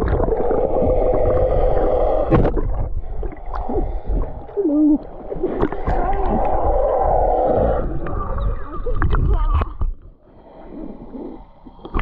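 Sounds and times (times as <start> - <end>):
low rumbling bursts: 0.0 - 9.9
water sloshing and gurgling: 0.0 - 12.0.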